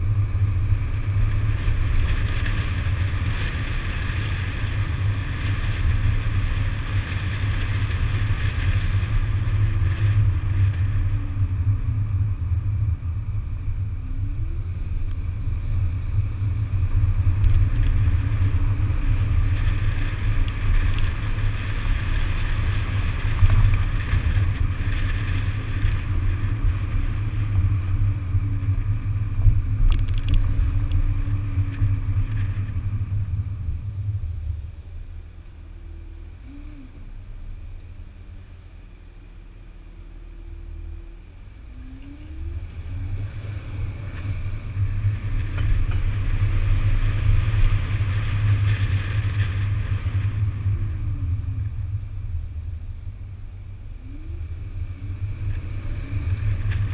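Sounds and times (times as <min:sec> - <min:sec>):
tyre and road noise: 0:00.0 - 0:56.9
wind rumble on microphone: 0:00.0 - 0:56.9.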